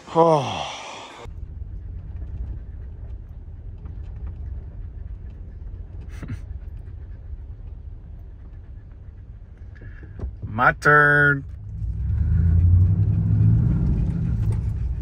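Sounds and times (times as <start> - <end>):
vehicle driving on rough dirt road: 1.2 - 15.0.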